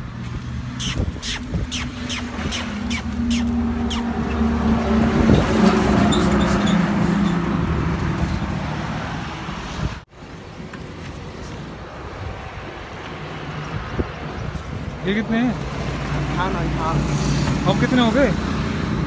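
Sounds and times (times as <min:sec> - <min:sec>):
heavy truck passing: 0:00.0 - 0:19.0
traffic noise: 0:00.0 - 0:19.0.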